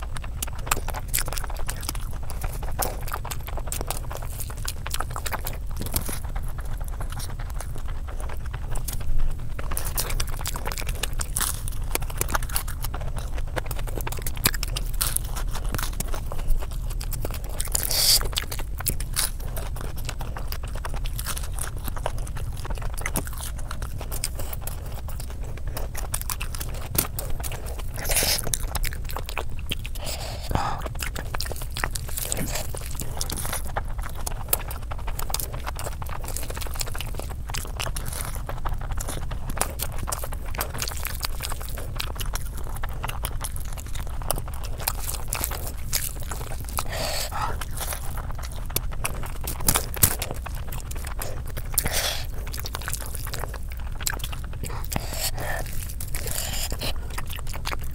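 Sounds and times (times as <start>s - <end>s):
chewing and biting: 0.0s - 57.9s
food squishing and crackling: 0.0s - 57.9s
steady low hum: 0.0s - 57.9s.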